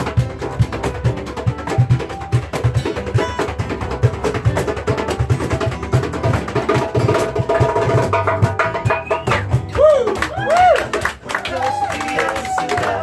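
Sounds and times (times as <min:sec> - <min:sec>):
hand-played percussion: 0:00.0 - 0:13.0.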